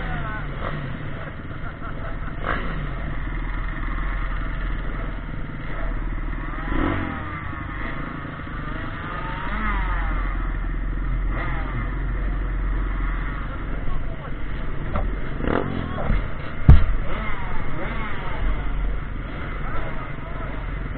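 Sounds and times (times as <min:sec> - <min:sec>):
pitbike engines revving: 0:00.0 - 0:20.9.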